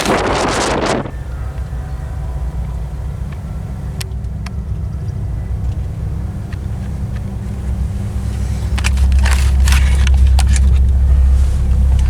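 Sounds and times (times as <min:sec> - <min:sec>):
car rumbling on road: 0:00.0 - 0:12.0.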